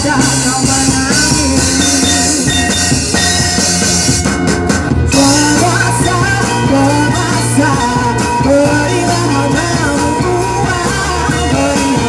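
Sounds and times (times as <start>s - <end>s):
live band playing pop-rock: 0.0s - 12.0s.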